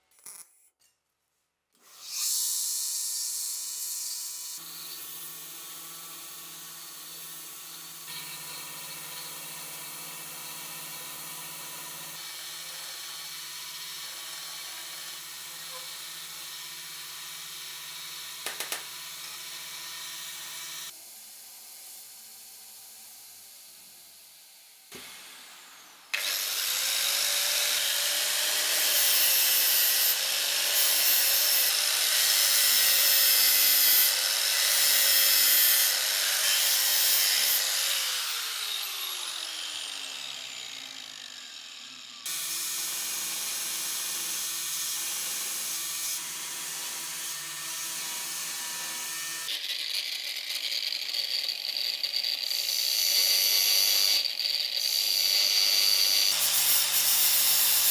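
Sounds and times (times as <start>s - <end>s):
power tool cutting metal: 1.8s - 57.9s.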